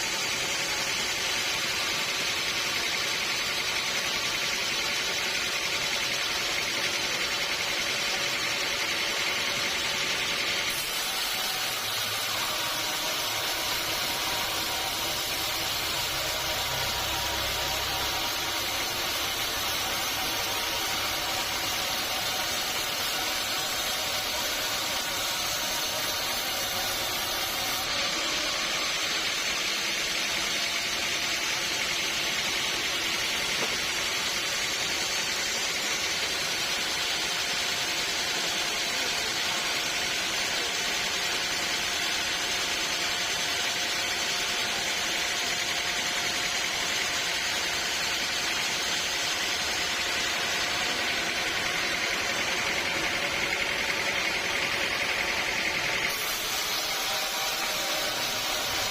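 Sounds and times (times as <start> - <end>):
saw cutting wood: 0.0 - 58.9.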